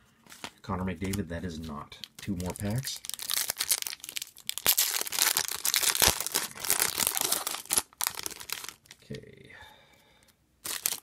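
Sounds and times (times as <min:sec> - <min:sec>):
foil wrapper crinkling: 0:00.4 - 0:09.0, 0:10.6 - 0:11.0.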